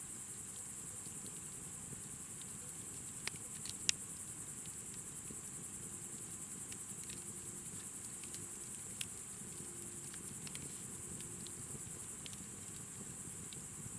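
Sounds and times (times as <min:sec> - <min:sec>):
night insects chirring: 0:00.0 - 0:13.9
campfire crackling and popping: 0:01.9 - 0:13.9.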